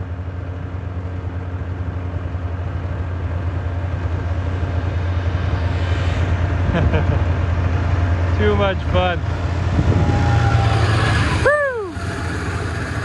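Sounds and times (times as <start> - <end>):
snowmobile engine humming: 0.0 - 13.0.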